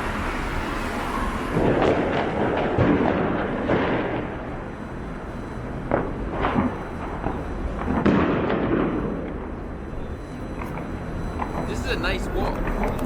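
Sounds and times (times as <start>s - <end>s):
firecrackers crackling: 0.0s - 13.0s
firework bangs: 0.0s - 13.0s
street noise: 0.0s - 13.0s.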